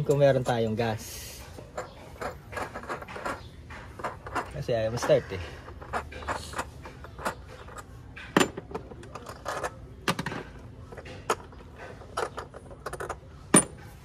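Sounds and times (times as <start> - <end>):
metallic clicks and clanks of tools: 1.7 - 14.0.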